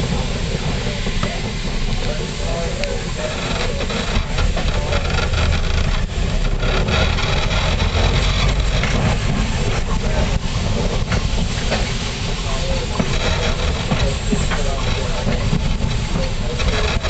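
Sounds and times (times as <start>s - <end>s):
electric train wheels rumbling: 0.0s - 17.0s.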